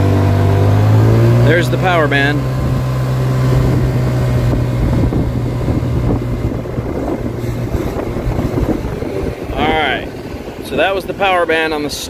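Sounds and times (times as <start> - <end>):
scooter engine droning: 0.0 - 12.0
wind rushing over microphone: 0.0 - 12.0.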